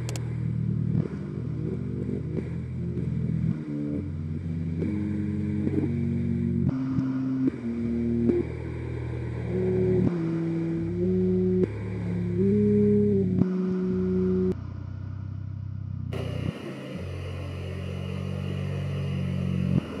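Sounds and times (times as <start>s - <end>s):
low synthesizer buzzing drone: 0.0s - 20.0s.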